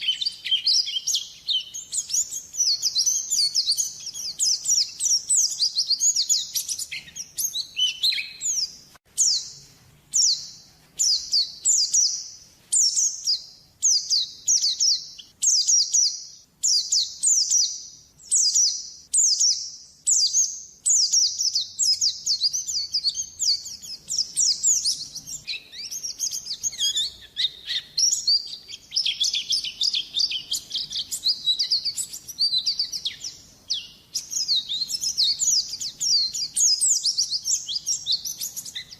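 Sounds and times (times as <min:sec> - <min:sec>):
bird chirping phrases: 0:00.0 - 0:38.9.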